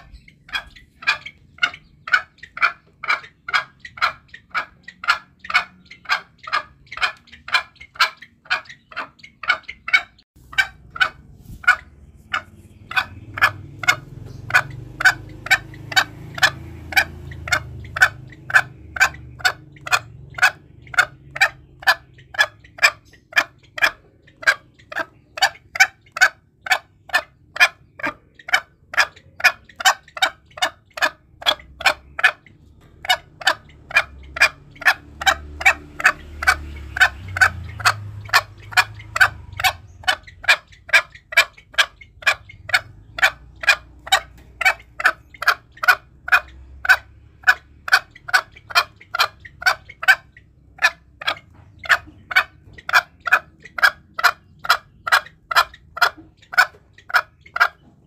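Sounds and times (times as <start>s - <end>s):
junglefowl clucking: 0.0s - 58.0s.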